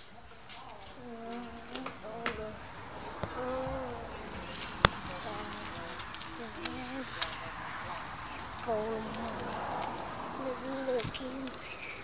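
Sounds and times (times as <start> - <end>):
faint voices: 0.0 - 12.0
insects buzzing: 0.0 - 12.0.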